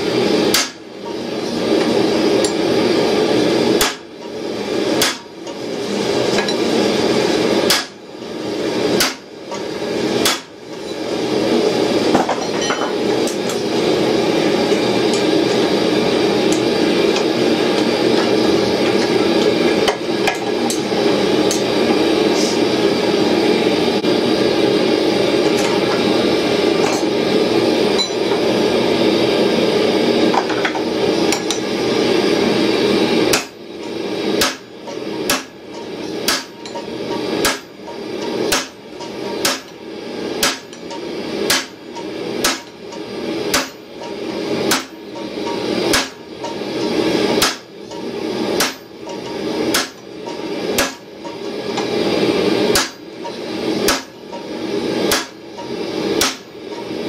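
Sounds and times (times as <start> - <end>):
hammer striking hot steel: 0.0 - 23.2, 25.1 - 28.7, 30.2 - 57.0.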